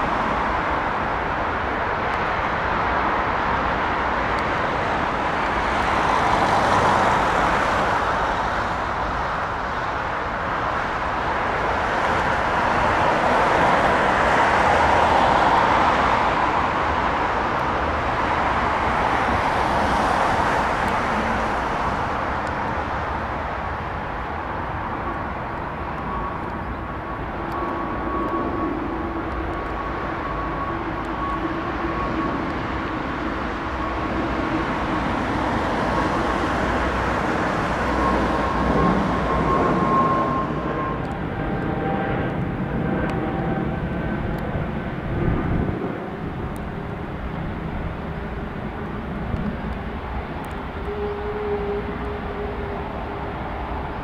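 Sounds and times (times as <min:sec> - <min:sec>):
jet engines whining: 0:04.1 - 0:54.0.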